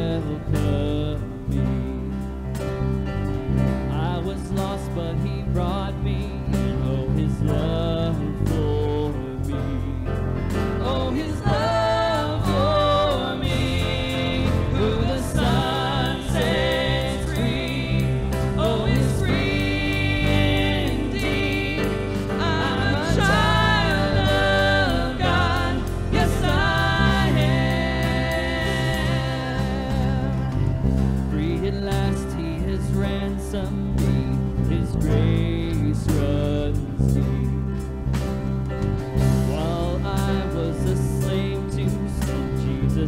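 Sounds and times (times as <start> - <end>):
gospel worship song: 0.0 - 43.0.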